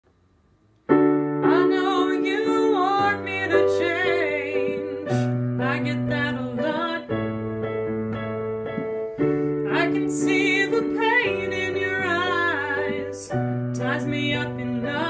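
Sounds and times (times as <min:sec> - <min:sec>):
piano chords: 0:00.8 - 0:15.0
person singing wordless melody: 0:01.4 - 0:08.9, 0:09.6 - 0:15.0.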